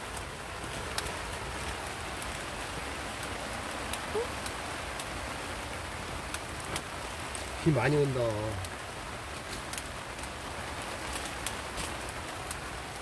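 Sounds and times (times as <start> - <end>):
raindrops ticking close by: 0.0 - 13.0
steady rain falling: 0.0 - 13.0.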